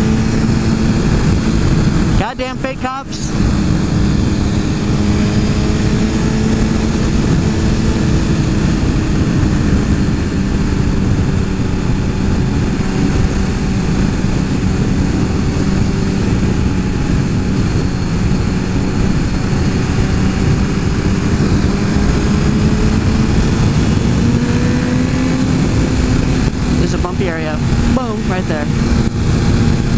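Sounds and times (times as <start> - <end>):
motorcycle engine cruising: 0.0 - 29.9.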